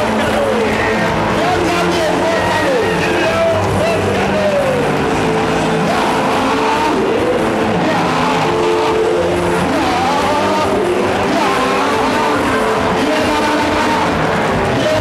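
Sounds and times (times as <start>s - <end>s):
congregation singing worship music: 0.0s - 15.0s.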